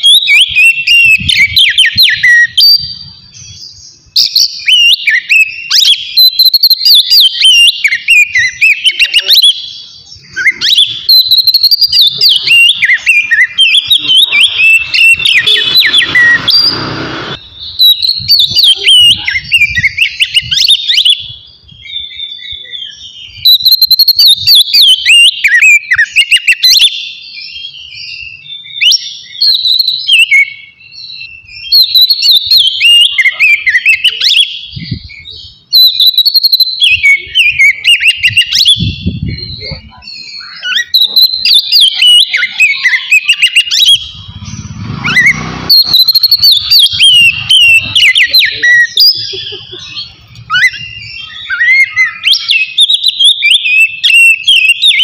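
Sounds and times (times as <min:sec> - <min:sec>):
bird singing whistled notes: 0:00.0 - 0:55.0.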